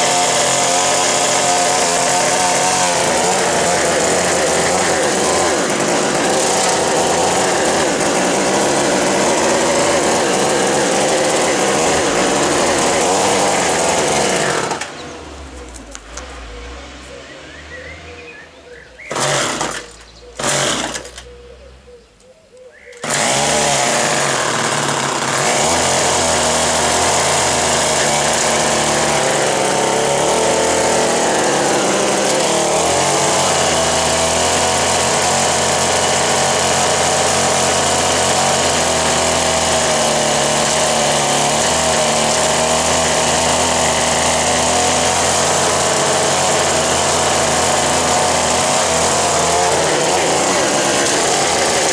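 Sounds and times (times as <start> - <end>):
two-stroke engine starting: 0.0 - 16.1, 19.0 - 21.4, 23.0 - 51.9.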